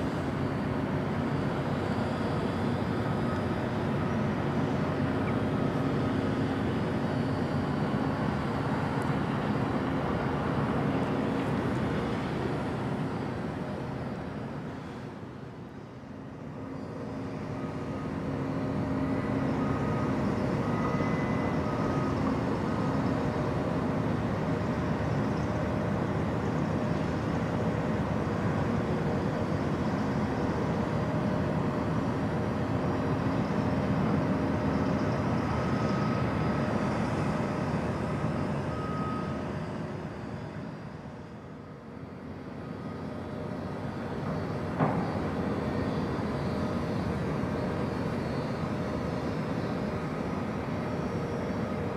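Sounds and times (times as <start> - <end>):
tugboat diesel engine drone: 0.0 - 51.9.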